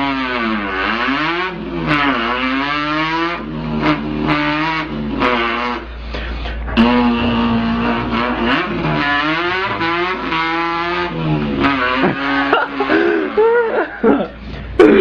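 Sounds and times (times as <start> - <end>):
man imitating engine revving: 0.0 - 15.0.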